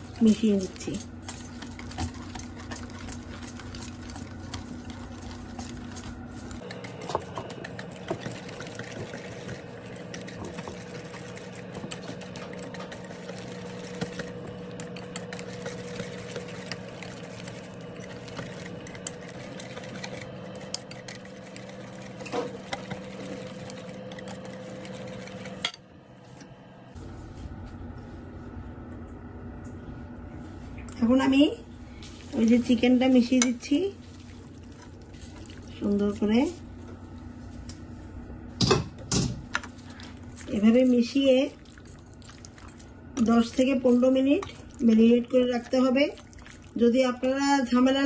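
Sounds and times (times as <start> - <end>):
utensil stirring wet marinade: 0.0 - 26.5, 32.0 - 36.6, 39.8 - 48.0.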